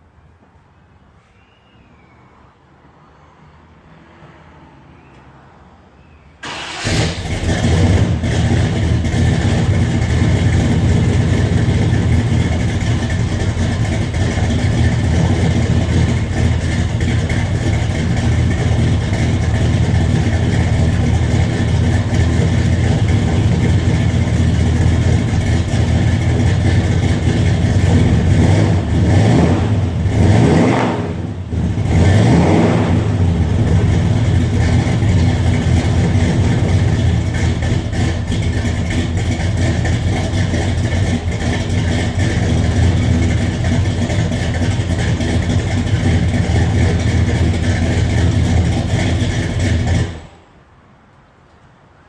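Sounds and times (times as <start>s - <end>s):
vehicle engine running and revving: 6.8s - 50.2s.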